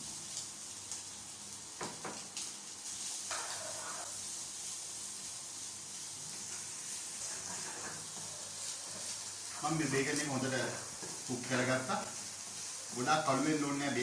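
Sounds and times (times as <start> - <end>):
bacon sizzling in a pan: 0.0 - 14.0.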